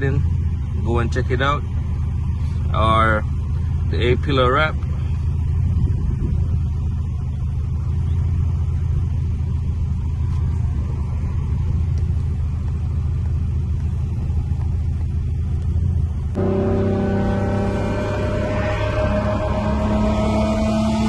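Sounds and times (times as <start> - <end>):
car engine rumble in cabin: 0.0 - 21.0.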